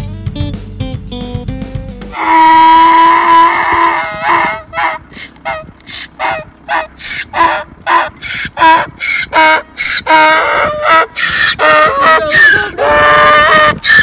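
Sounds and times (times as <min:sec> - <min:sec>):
donkey braying: 0:02.1 - 0:14.0.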